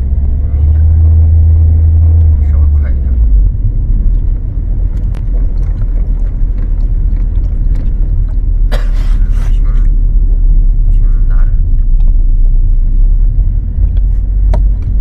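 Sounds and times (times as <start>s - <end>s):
car road rumble: 0.0s - 15.0s.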